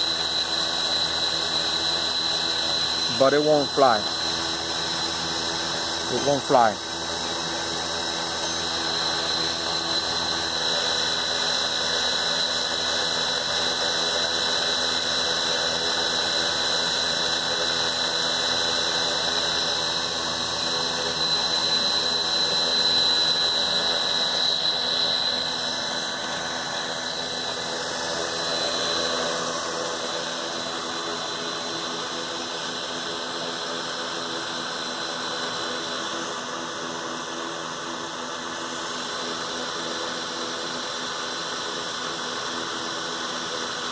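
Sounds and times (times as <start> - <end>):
quadcopter motors whining: 0.0 - 43.9.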